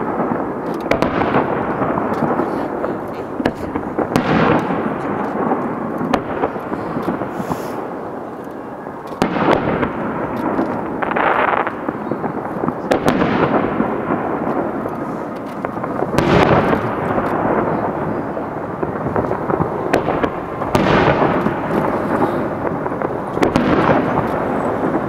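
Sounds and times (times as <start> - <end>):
fireworks bursting with rumble: 0.0 - 25.0
fireworks crackles: 0.0 - 25.0.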